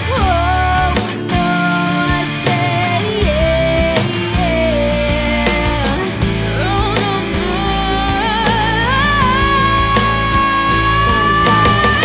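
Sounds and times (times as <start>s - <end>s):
rock song with guitar: 0.0s - 12.0s.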